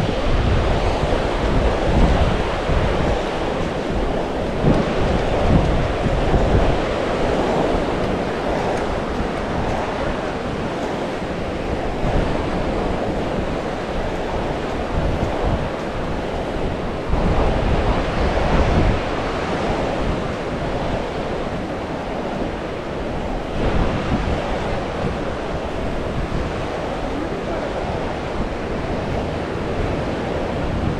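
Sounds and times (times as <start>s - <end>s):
surf washing onto beach: 0.0s - 30.9s
wind rumbling on microphone: 0.0s - 30.9s.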